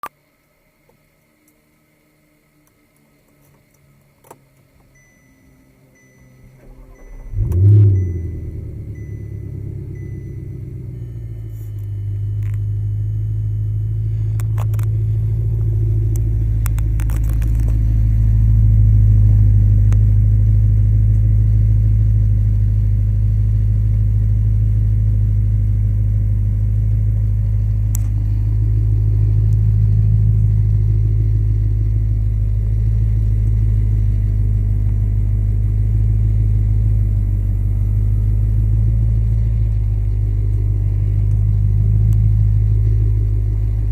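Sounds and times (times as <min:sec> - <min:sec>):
car engine idling rumble: 0:03.1 - 0:43.9.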